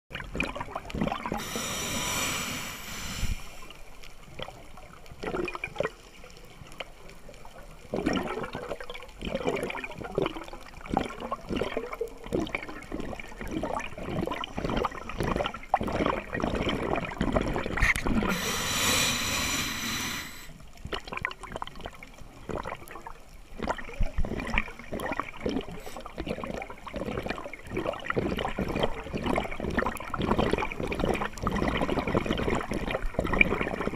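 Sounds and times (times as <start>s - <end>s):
bubbles rushing and gurgling: 0.1s - 6.0s, 7.4s - 33.9s.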